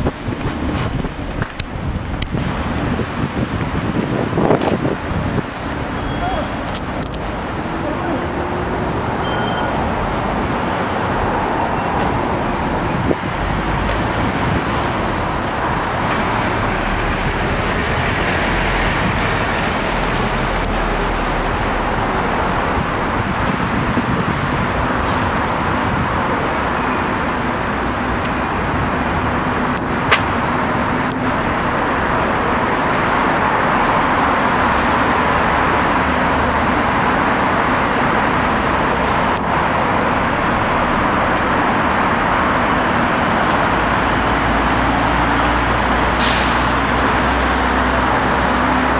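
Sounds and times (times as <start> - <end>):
road traffic roar: 0.0 - 48.9.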